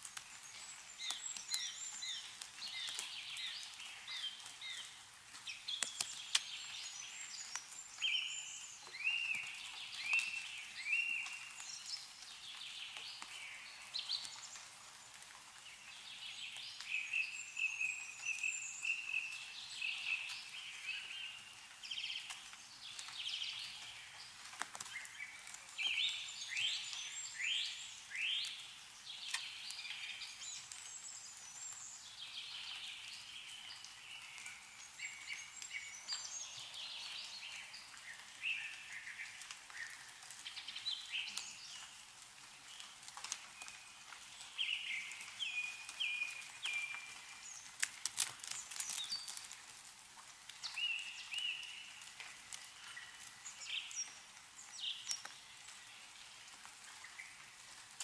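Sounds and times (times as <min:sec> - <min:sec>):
melting snow dripping: 0:00.0 - 0:58.0
songbirds chirping and calling: 0:00.2 - 0:49.6, 0:50.6 - 0:57.6.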